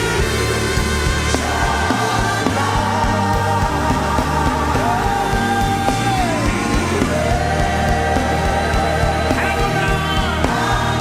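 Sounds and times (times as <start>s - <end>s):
band with bass and beat: 0.0s - 11.0s
choir singing gospel: 0.0s - 11.0s.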